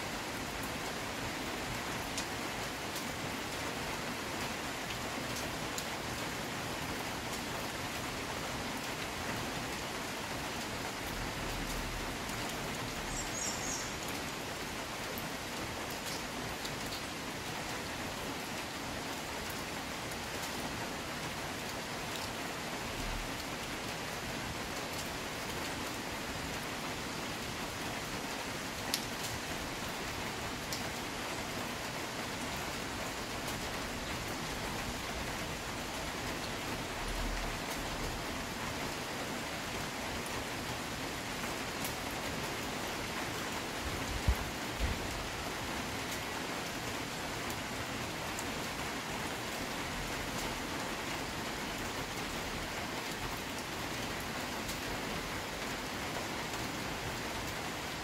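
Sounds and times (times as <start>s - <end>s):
steady rain on trees: 0.0s - 58.0s.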